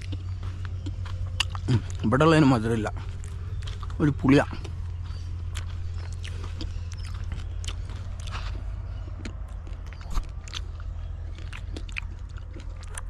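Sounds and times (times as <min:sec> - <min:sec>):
person chewing grapes: 0:00.0 - 0:13.0
steady low rumble: 0:00.0 - 0:13.0.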